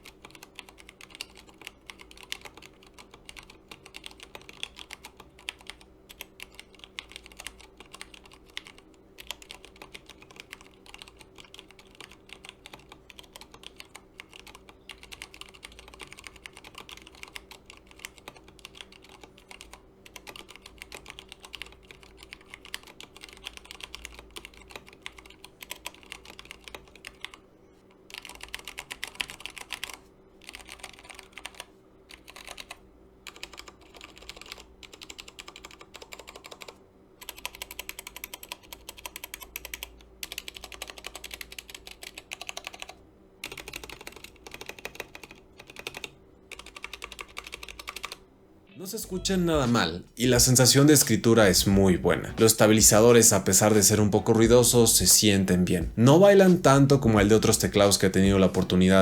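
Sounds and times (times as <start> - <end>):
mechanical keyboard typing: 0.0 - 27.4, 28.1 - 48.2, 49.5 - 59.0.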